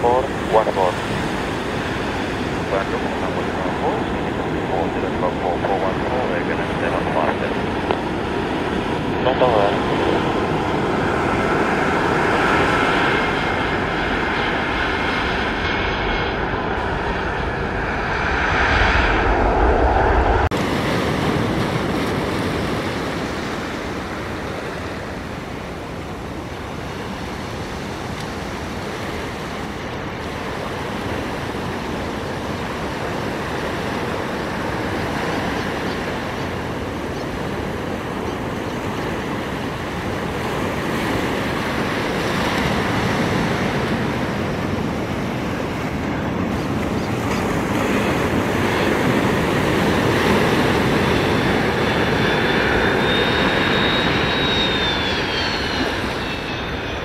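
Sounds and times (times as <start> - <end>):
jet airliner passing low: 0.0 - 57.0
surf and wind: 0.0 - 57.0.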